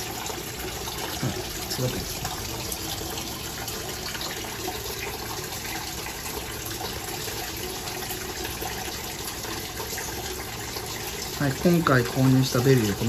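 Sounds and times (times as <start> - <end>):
water running into tank: 0.0 - 13.0.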